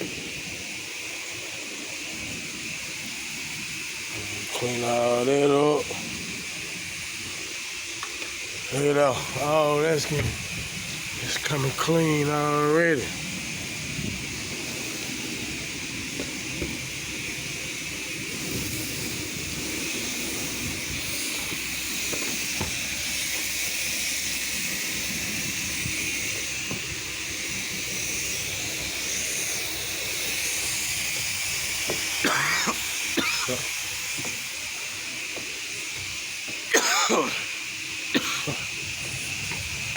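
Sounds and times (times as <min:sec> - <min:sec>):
sprayer nozzle hissing: 0:00.0 - 0:39.9.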